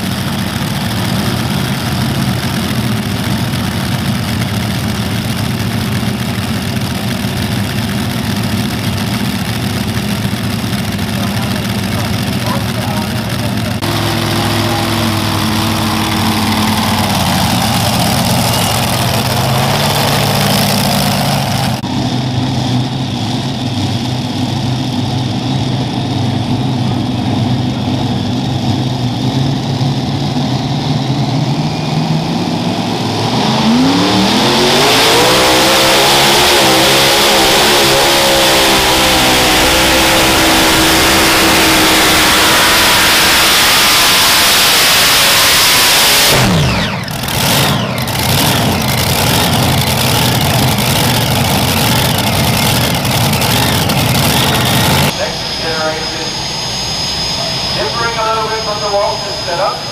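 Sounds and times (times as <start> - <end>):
tractor engines idling: 0.0 - 59.9
tractor engines revving high: 0.0 - 59.9.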